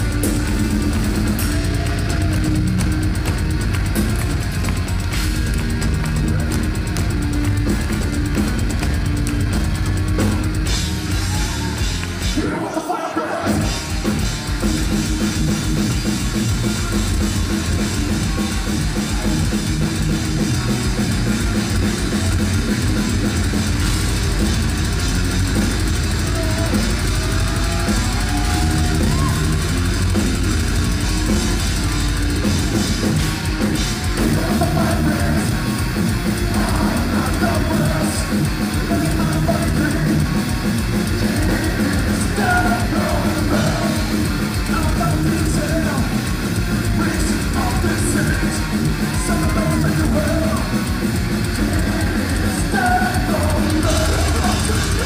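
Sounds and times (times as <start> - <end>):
distorted electric guitars: 0.0 - 55.0
pounding drum kit: 0.0 - 55.0.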